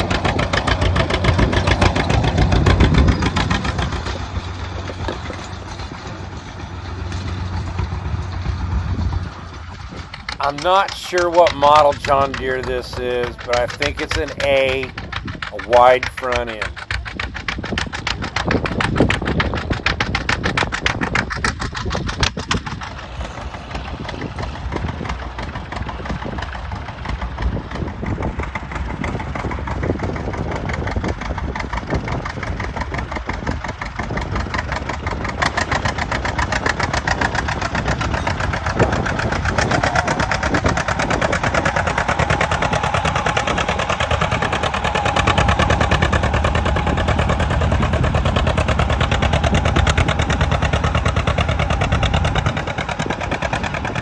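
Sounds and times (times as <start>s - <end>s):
tractor engine exhaust pops: 0.0s - 54.0s.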